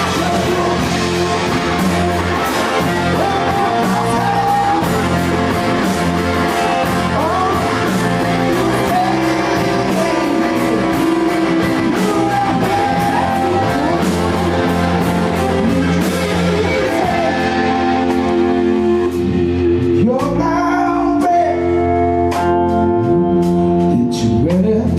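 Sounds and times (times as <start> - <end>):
electric guitar: 0.0 - 24.9
person singing: 0.0 - 24.9
rhythm section: 0.0 - 24.9.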